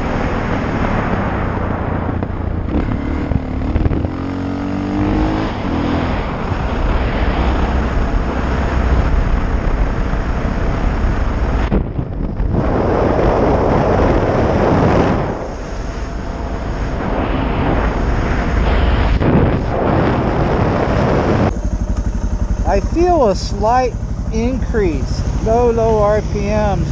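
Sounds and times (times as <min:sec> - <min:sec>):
motorcycle engine running: 0:00.0 - 0:26.9
wind noise on microphone: 0:00.0 - 0:26.9.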